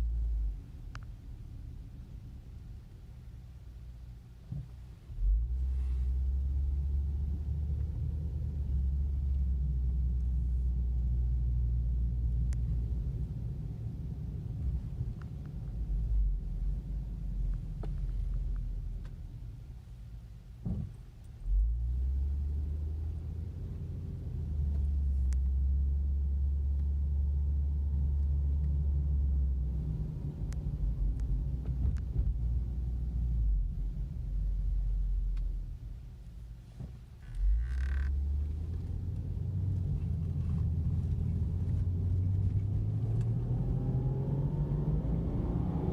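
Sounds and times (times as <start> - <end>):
car engine and exhaust rumble: 0.0 - 45.9.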